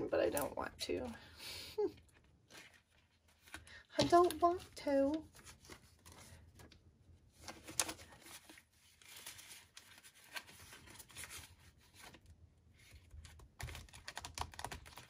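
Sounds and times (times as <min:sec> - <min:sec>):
binder pages flipping: 0:02.0 - 0:15.0.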